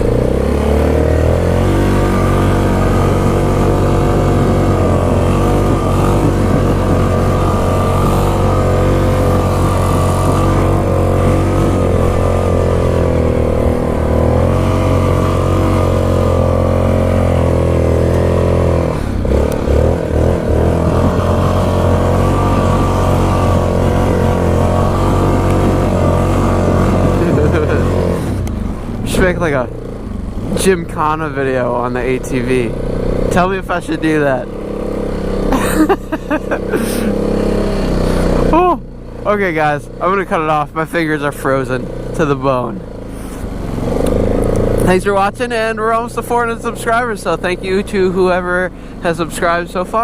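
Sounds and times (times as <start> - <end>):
atv engine running: 0.0 - 50.0.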